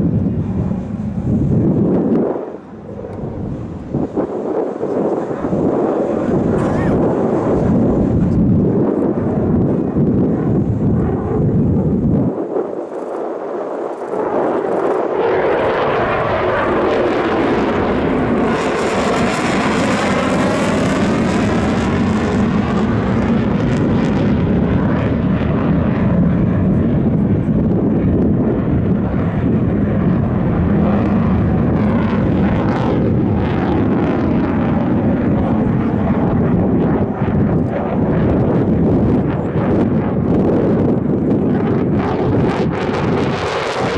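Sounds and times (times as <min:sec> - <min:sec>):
aircraft engine roaring: 0:00.0 - 0:43.9
aircraft whoosh passing: 0:00.0 - 0:43.9.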